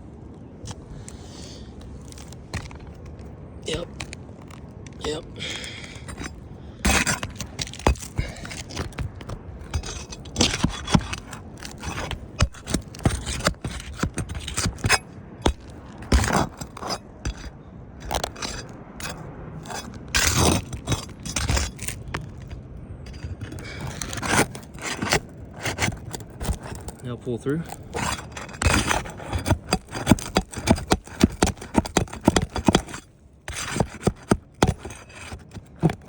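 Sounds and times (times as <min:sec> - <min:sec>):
roof shingles scraping and clicking: 0:00.7 - 0:36.0.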